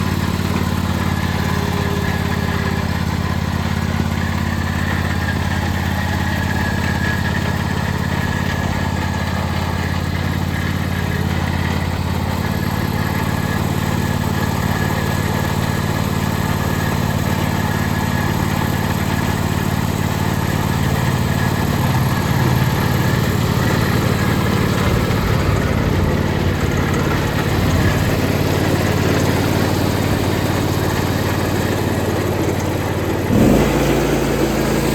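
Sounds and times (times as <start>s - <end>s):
lawn tractor engine idling: 0.0s - 34.9s.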